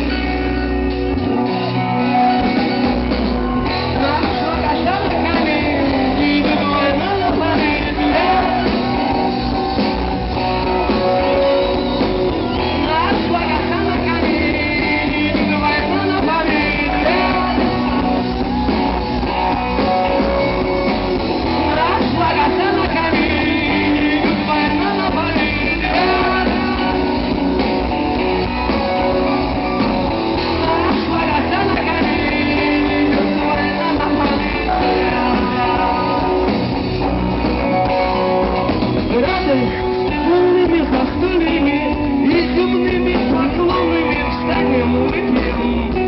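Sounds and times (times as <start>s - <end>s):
electric guitar: 0.0s - 46.0s
live rock band playing: 0.0s - 46.0s.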